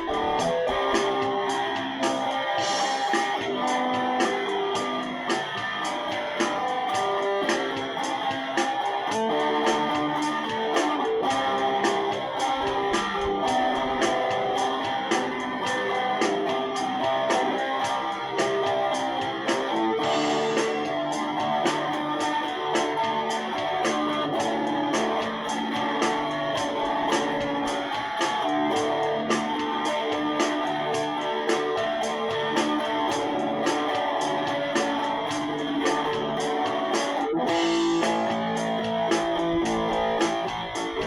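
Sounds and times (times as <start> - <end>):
guitar picking a melody: 0.0 - 41.0
steady ticking beat: 0.0 - 41.0.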